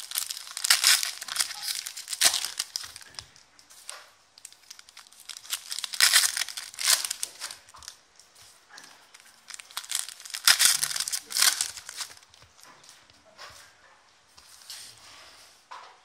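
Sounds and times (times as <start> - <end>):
foil wrappers crinkling and tearing: 0.0 - 12.9.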